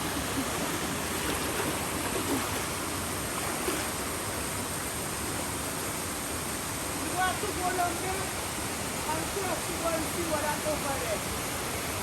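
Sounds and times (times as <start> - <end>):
waterfall and river roar: 0.0 - 12.0.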